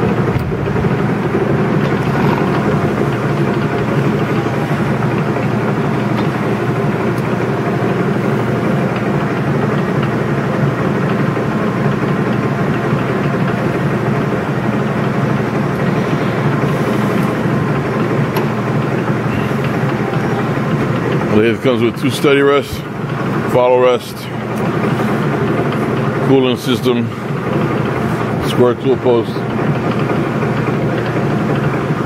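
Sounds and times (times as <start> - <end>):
lathe running: 0.0 - 32.0.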